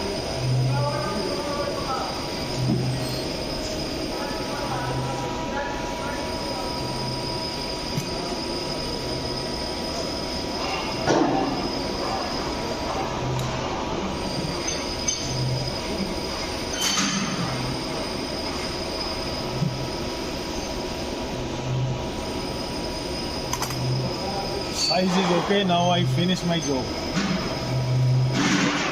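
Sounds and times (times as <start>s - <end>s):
high whining tones: 0.0s - 28.5s
low pulsing hum: 0.0s - 28.9s
machine shop noise: 0.0s - 28.9s.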